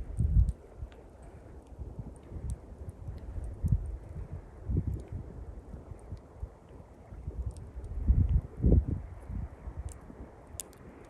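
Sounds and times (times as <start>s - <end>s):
campfire crackling: 0.0s - 11.0s
wind: 0.0s - 11.0s.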